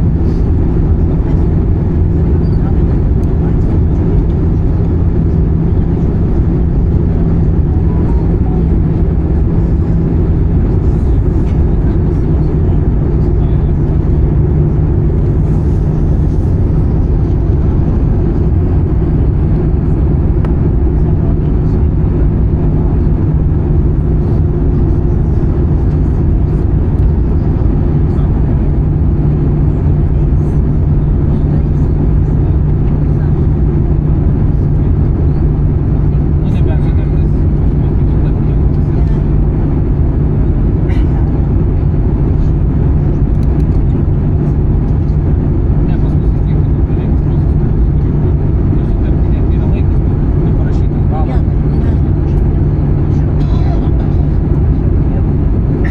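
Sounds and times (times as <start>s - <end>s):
airplane cabin engine drone: 0.0s - 55.9s
low hum: 0.0s - 55.9s.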